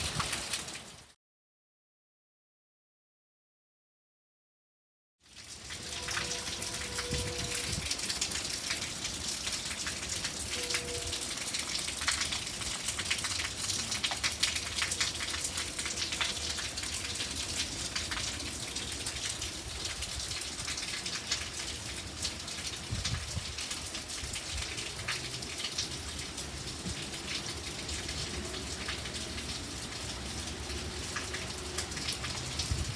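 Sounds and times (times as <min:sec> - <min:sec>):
heavy rain: 0:00.0 - 0:01.2, 0:05.3 - 0:32.9.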